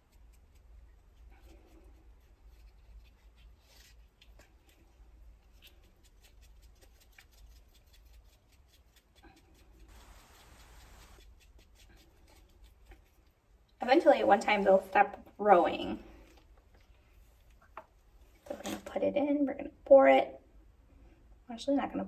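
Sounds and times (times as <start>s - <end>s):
faint room hum: 0.0s - 22.0s.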